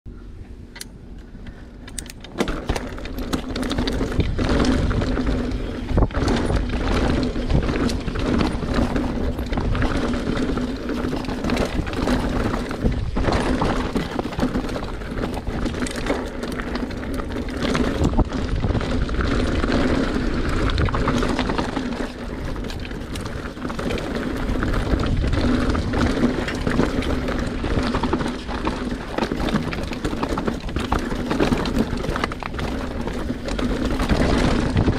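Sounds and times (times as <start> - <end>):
bike rattling and knocking: 0.8 - 34.9
wind rumbling on microphone: 1.3 - 34.9
bike tyres rolling over rock: 1.5 - 34.9.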